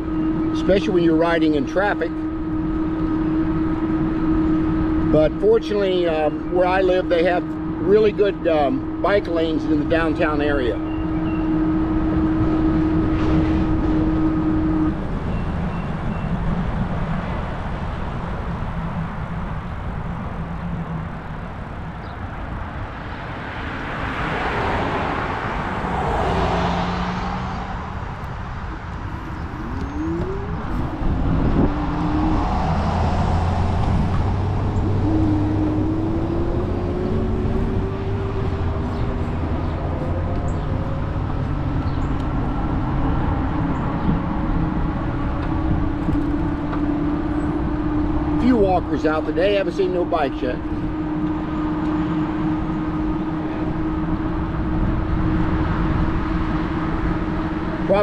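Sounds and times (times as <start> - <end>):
low hum: 0.0 - 57.9
rising whines: 0.0 - 58.0
road rumble: 0.0 - 58.0
vehicles passing: 0.0 - 58.0
wind on microphone: 0.0 - 58.0.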